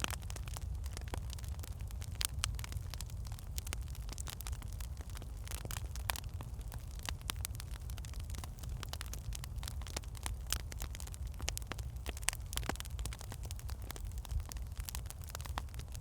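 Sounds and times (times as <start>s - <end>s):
fire crackling and popping: 0.0s - 16.0s
low fire rumble: 0.0s - 16.0s.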